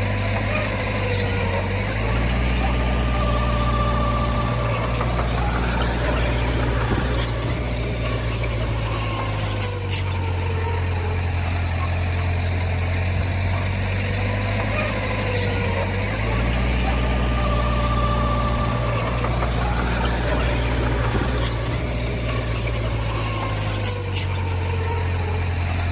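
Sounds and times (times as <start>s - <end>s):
heavy diesel engine humming: 0.0s - 25.9s.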